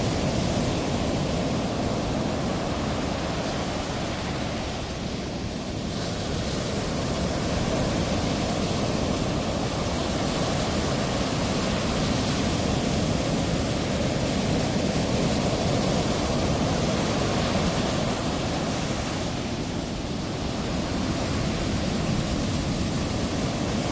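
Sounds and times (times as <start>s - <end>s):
waves breaking: 0.0s - 23.9s.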